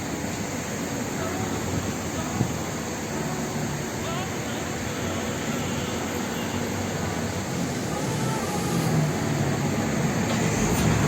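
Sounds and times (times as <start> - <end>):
road traffic drone: 0.0 - 11.0.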